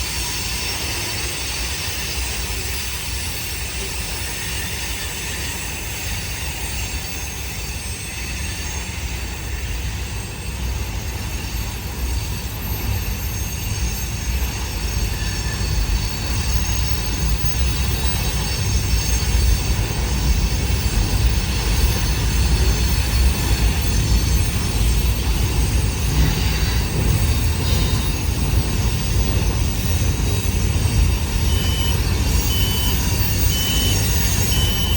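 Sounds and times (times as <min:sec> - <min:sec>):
train rumbling over bridge: 0:00.0 - 0:34.9
wheels squealing: 0:00.1 - 0:34.9.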